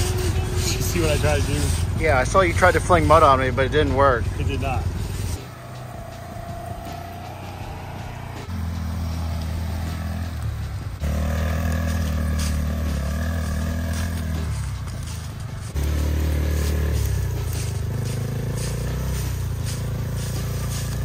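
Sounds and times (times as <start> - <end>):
off-road vehicle engines running: 0.0 - 21.0.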